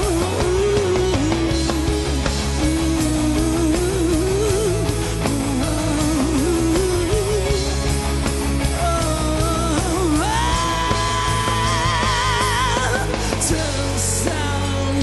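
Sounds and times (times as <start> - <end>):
man singing: 0.0 - 7.8, 8.6 - 15.0
electric guitar: 0.0 - 15.0
live rock band playing: 0.0 - 15.0.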